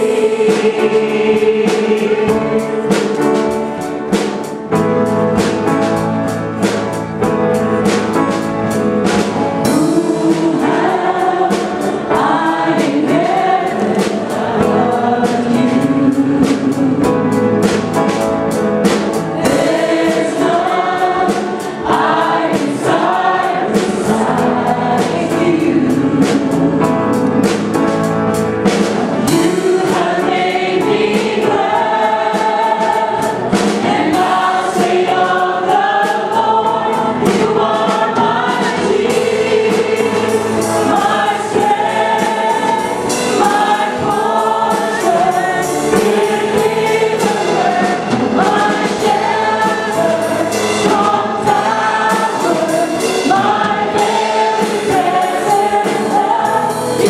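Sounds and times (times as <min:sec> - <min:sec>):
group singing worship song: 0:00.0 - 0:05.6, 0:09.0 - 0:57.0
live band with drums: 0:00.0 - 0:57.0.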